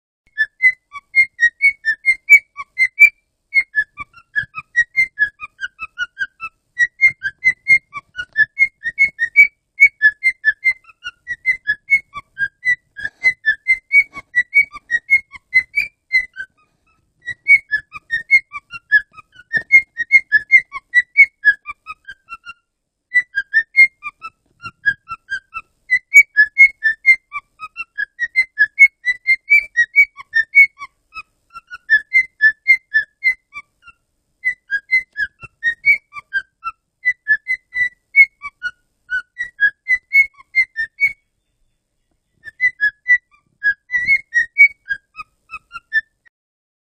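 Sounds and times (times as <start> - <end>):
cockatiel whistling: 0.3 - 41.2, 42.4 - 46.3.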